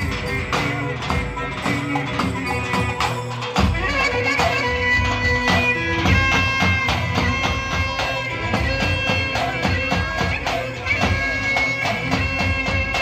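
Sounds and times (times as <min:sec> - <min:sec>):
driving drum beat: 0:00.0 - 0:13.0
reedy wind instrument melody: 0:00.0 - 0:13.0.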